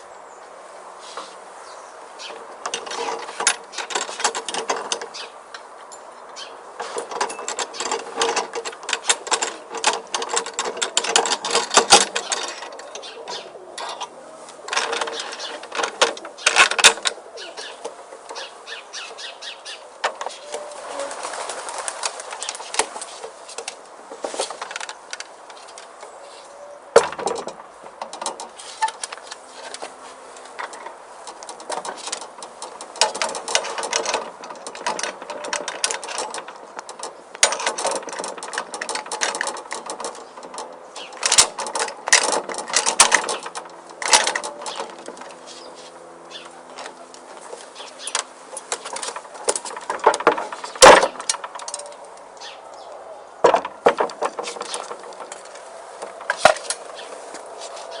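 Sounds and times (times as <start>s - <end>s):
clicks and rattles: 2.2s - 19.2s, 20.0s - 26.2s, 26.9s - 58.0s.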